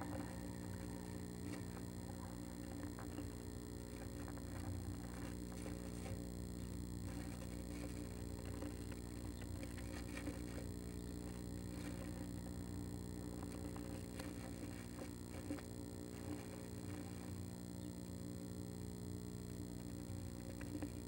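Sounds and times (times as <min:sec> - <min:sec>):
bird scratching on wood shavings: 0:00.0 - 0:06.2, 0:07.0 - 0:17.5, 0:20.2 - 0:21.0
steady low hum: 0:00.0 - 0:21.0.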